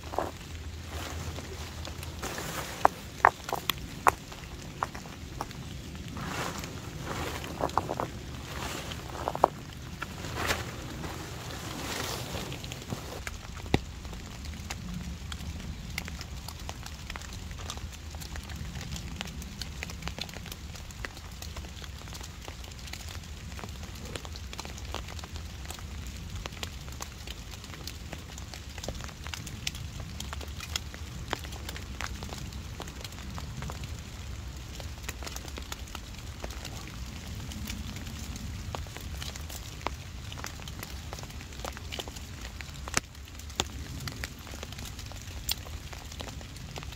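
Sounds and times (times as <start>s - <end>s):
low steady rain rumble: 0.0s - 46.9s
rain drops ticking: 0.0s - 46.9s.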